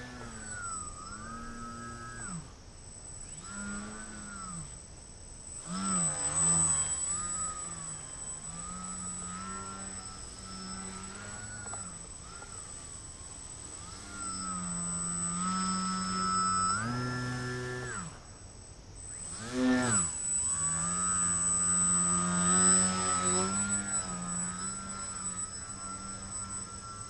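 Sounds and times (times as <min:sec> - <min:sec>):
electric motor and propeller whining: 0:00.0 - 0:27.0.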